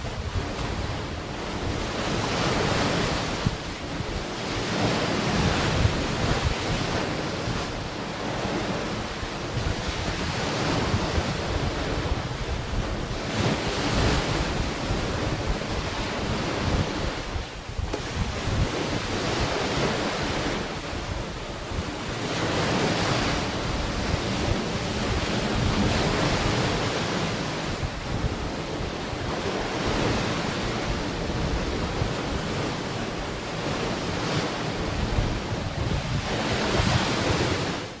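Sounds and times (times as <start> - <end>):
sea waves washing on beach: 0.0 - 38.0
wind buffeting microphone: 0.0 - 38.0.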